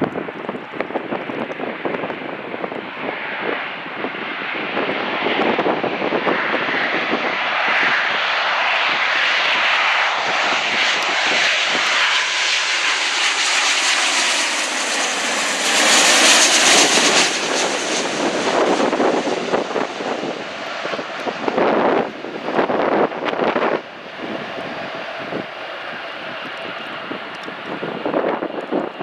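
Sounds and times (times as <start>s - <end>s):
jet airliner flying past: 0.0s - 29.0s.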